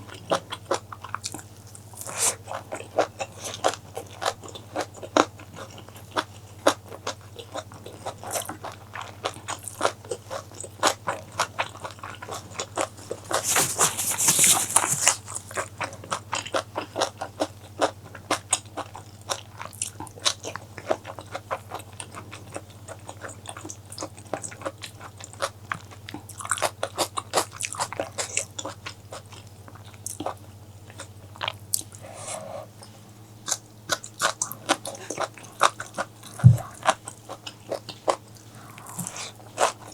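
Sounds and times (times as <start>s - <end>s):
wet chewing and crunching: 0.0s - 39.9s
steady low hum: 7.3s - 18.4s, 19.0s - 39.9s.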